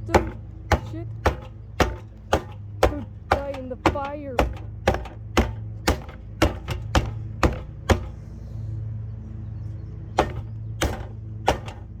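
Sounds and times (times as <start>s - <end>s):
box fan motor humming: 0.0s - 8.4s, 10.2s - 12.0s.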